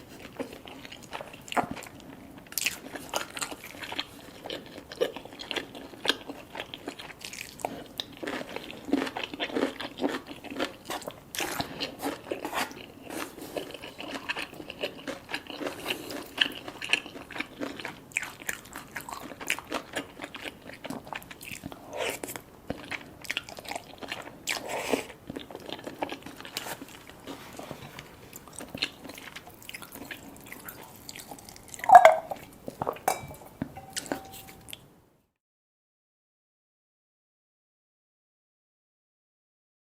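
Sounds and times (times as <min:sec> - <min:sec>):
people chewing and crunching food: 0:00.0 - 0:34.8.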